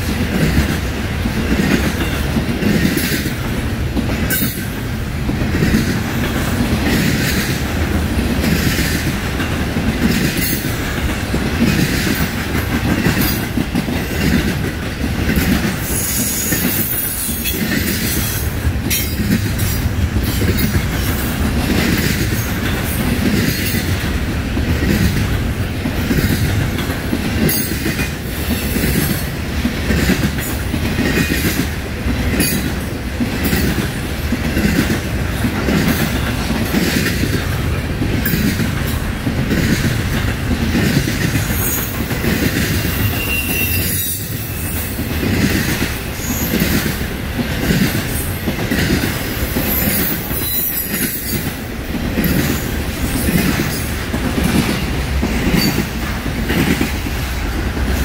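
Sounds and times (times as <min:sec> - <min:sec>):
freight train wheels rumbling: 0:00.0 - 0:58.0
wheels clicking on rails: 0:00.0 - 0:58.0.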